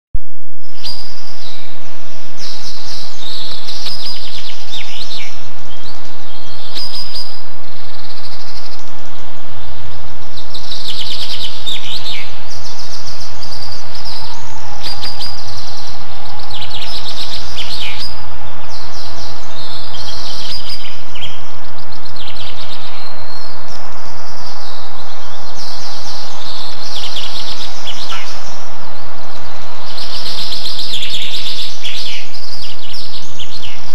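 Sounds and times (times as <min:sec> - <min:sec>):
steady outdoor hiss: 0:00.2 - 0:33.9
birds chirping: 0:00.7 - 0:33.9.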